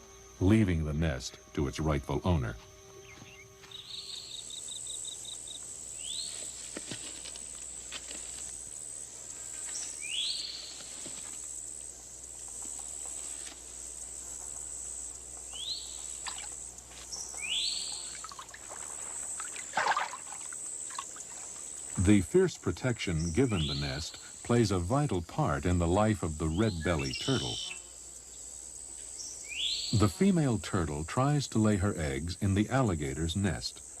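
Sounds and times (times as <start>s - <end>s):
high-pitched insect drone: 0.0s - 6.6s, 7.4s - 32.3s.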